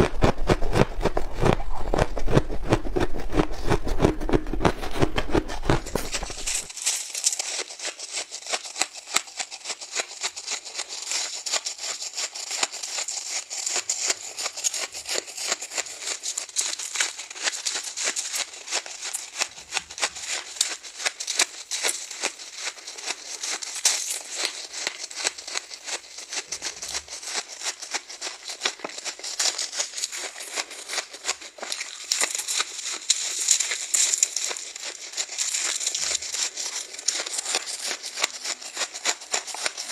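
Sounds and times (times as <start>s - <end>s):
ice being bitten and crunched: 0.0s - 39.9s.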